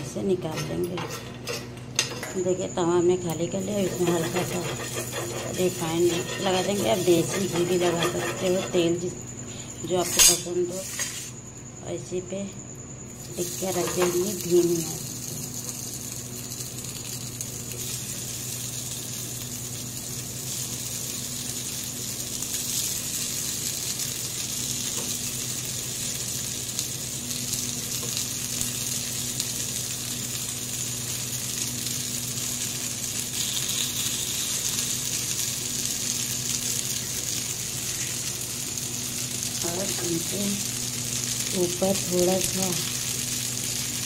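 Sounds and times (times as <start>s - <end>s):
faint steady hum: 0.0s - 44.0s
food sizzling in oil: 0.4s - 11.4s, 12.8s - 44.0s.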